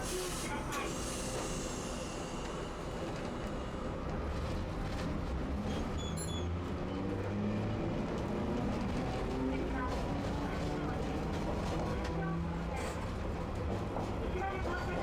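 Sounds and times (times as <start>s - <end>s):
streetcar rumbling on tracks: 0.0s - 15.0s.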